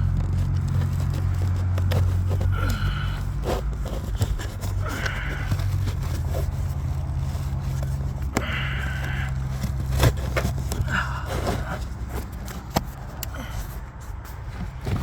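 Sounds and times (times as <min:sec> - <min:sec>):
plastic scraping and clicking: 0:00.0 - 0:15.0.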